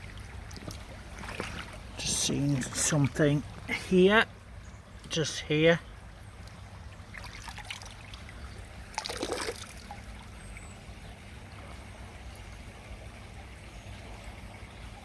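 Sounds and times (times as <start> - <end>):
stream trickling over stones: 0.0 - 15.0.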